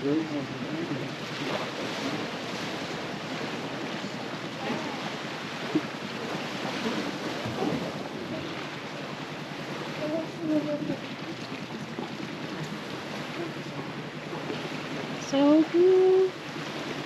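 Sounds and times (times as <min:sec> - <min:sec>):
sea waves washing: 0:00.0 - 0:17.0
wind buffeting microphone: 0:00.0 - 0:17.0.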